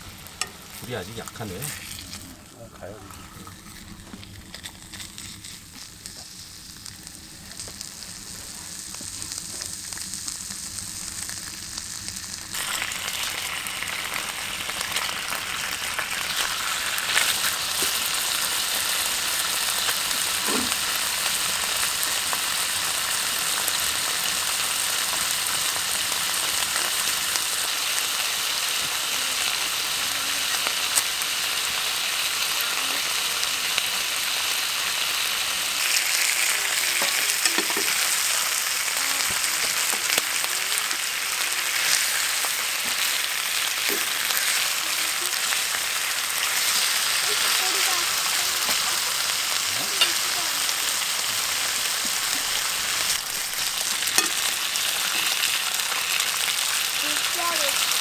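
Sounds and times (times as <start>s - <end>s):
meat sizzling in a pan: 0.0s - 58.0s
small pops of frying fat: 3.3s - 58.0s.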